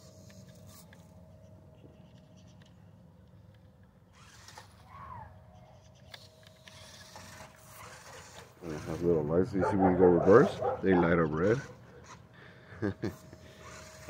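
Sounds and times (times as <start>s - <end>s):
toy truck electric motor whirring: 0.0s - 1.4s, 4.0s - 14.0s
high motor whine: 0.0s - 14.0s.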